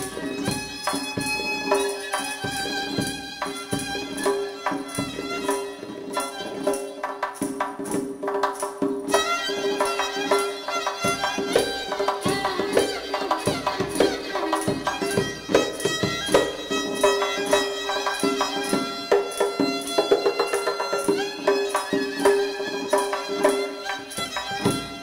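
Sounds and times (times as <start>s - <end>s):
violin melody with sliding notes: 0.0s - 7.6s, 9.0s - 25.0s
goblet drum struck by hand: 0.0s - 25.0s.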